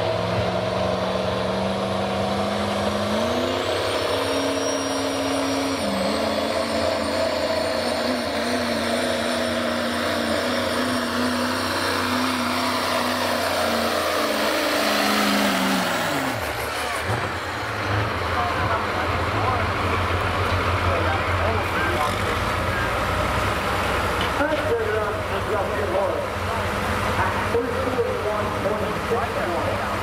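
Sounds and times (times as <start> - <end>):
diesel truck engine at full throttle: 0.0 - 30.0
high turbo whine: 0.0 - 30.0.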